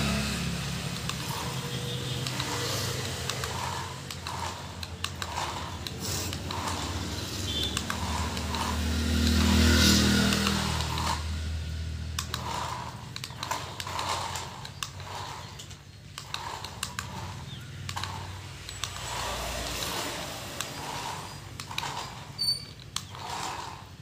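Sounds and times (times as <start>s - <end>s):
toy cars clicking and rattling: 0.0s - 24.0s.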